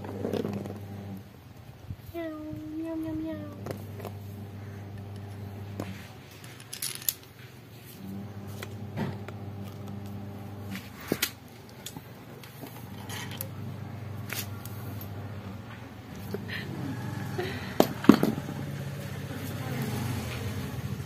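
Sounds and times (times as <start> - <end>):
steady low hum: 0.0 - 6.5, 7.6 - 21.0.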